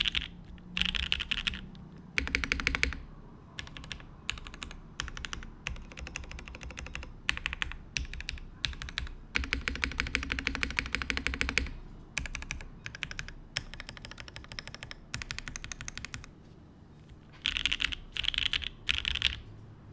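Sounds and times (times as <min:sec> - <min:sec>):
mechanical keyboard typing: 0:00.0 - 0:16.4, 0:17.4 - 0:19.5.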